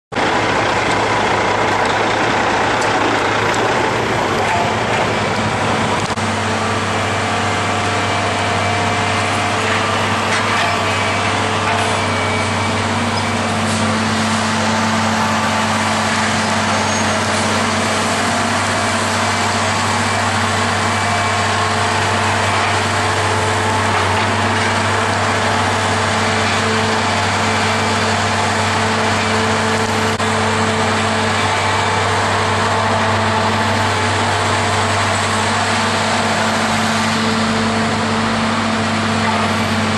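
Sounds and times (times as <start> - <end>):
diesel truck engine running: 0.1 - 39.9
road noise rumble: 0.1 - 39.9.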